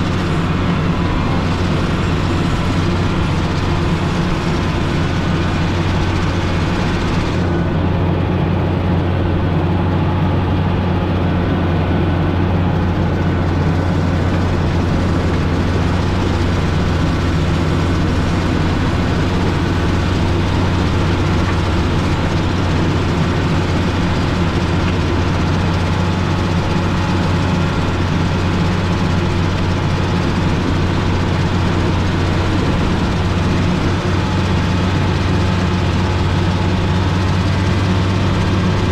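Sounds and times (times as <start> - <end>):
diesel engine low drone: 0.0 - 38.9.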